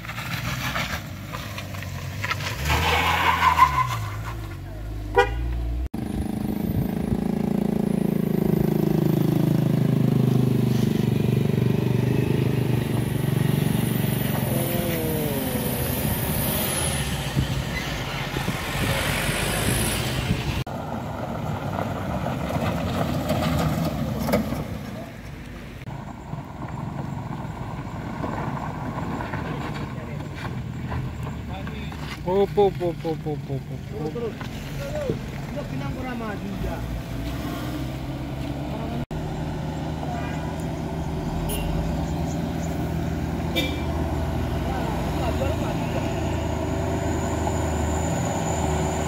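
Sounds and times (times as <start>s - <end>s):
vehicle engine running under load: 4.5s - 49.0s.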